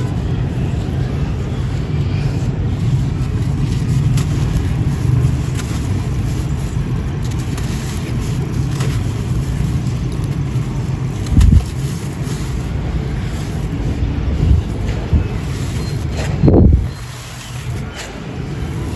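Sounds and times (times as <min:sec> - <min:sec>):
crumbling cement crackles: 0:00.0 - 0:18.9
wind buffeting microphone: 0:00.0 - 0:18.9.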